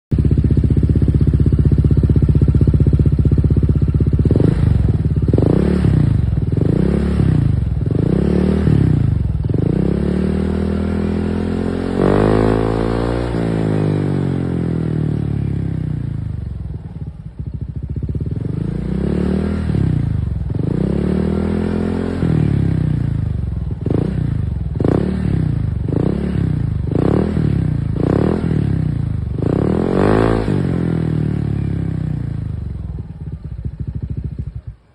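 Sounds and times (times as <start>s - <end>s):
scooter engine idling and revving: 0.1s - 34.9s.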